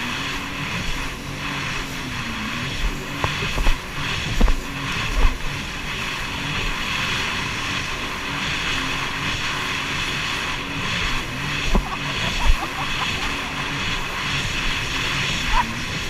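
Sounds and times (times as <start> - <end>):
jet ski engine running: 0.0 - 16.0
water rushing and spraying: 0.0 - 16.0.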